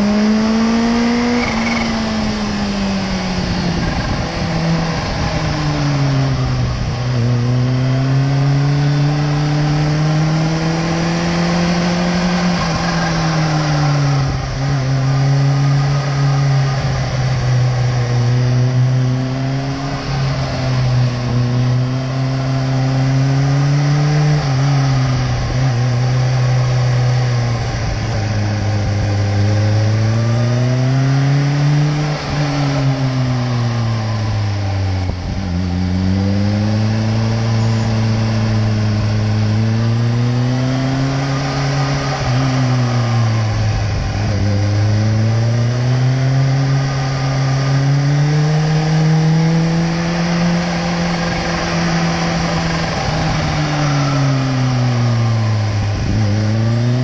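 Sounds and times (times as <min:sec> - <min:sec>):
motorcycle engine revving: 0:00.0 - 0:57.0
wind and road hiss: 0:00.0 - 0:57.0.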